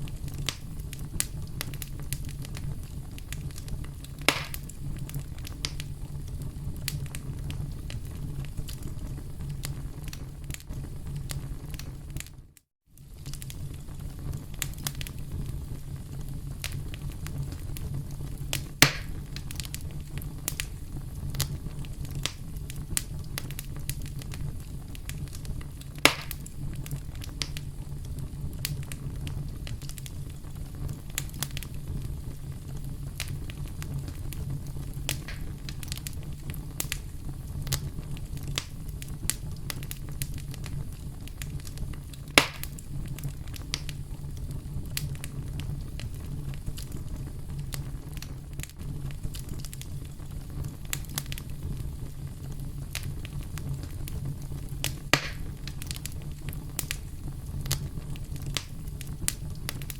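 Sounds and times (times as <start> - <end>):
campfire crackling: 0.0 - 59.9
fire popping and snapping: 0.0 - 59.9.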